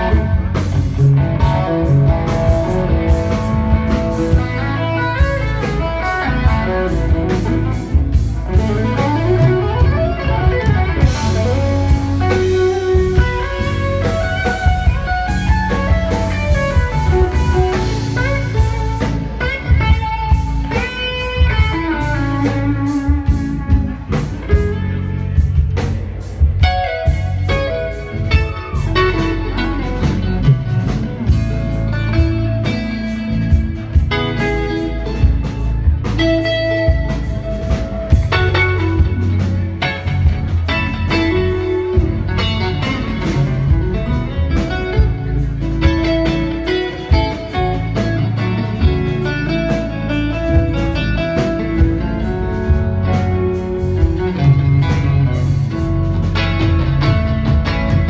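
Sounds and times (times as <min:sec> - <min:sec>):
bass line: 0:00.0 - 0:58.0
drums: 0:00.0 - 0:58.0
electric guitar solo: 0:00.0 - 0:58.0.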